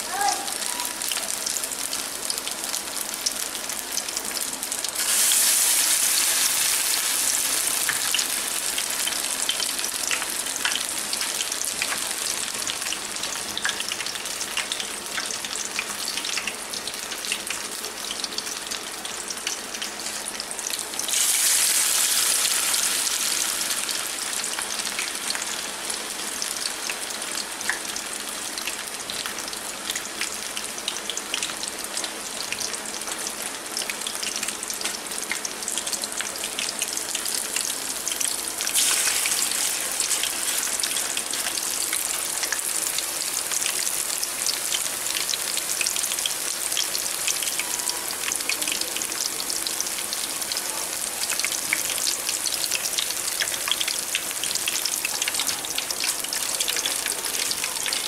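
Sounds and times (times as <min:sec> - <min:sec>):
patties sizzling in hot oil: 0:00.0 - 0:58.0.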